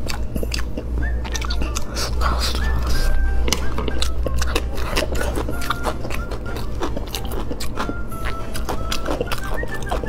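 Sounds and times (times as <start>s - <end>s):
close chewing and mouth smacking: 0.0s - 10.0s
background music: 0.5s - 10.0s.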